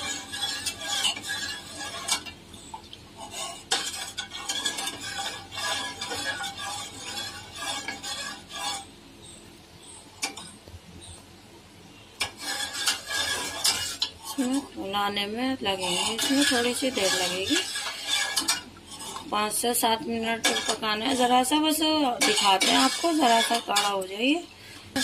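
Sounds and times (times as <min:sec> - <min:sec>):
spoon stirring in metal saucepan: 0:00.0 - 0:08.9, 0:12.2 - 0:25.0.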